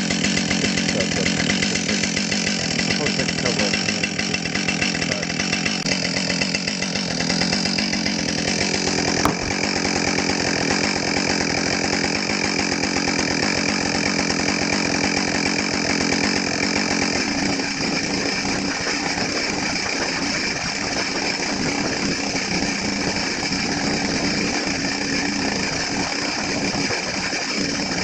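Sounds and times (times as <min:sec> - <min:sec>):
chainsaw engine idling: 0:00.0 - 0:28.0.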